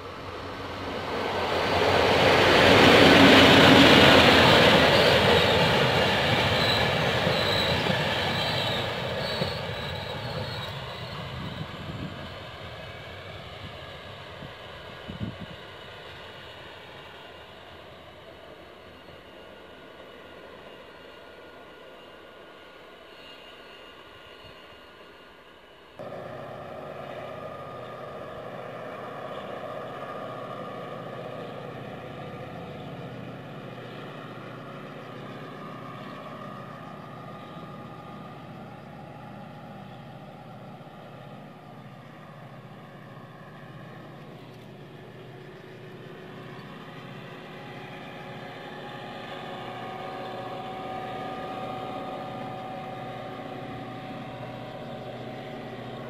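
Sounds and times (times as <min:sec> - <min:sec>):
diesel locomotive engine running: 0:00.0 - 0:20.9, 0:26.0 - 0:56.0.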